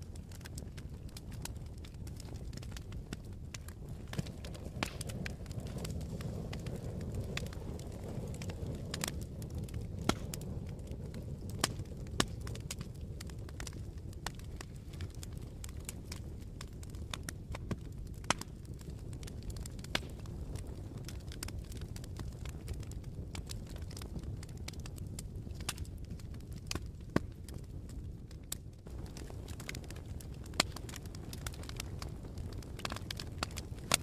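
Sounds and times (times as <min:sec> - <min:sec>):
fire crackling and popping: 0:00.0 - 0:34.0
fire rumbling: 0:00.0 - 0:34.0.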